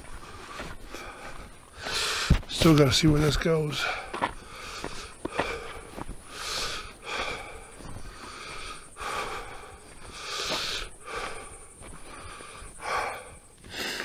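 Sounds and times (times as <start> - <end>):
man breathing heavily: 0.0 - 14.0.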